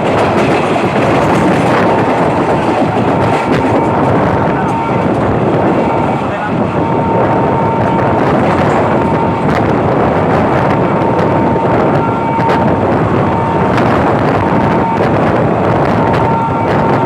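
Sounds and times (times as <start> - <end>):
train rumble and air rush: 0.0 - 17.0.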